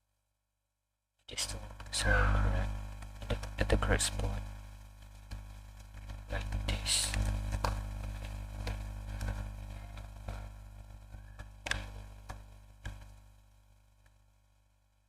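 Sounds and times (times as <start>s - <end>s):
low steady hum: 1.2s - 15.0s.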